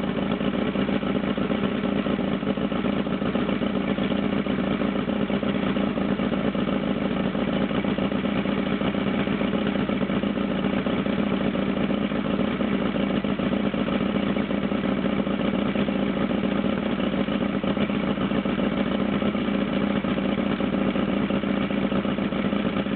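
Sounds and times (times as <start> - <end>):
outboard motor running: 0.0 - 22.9.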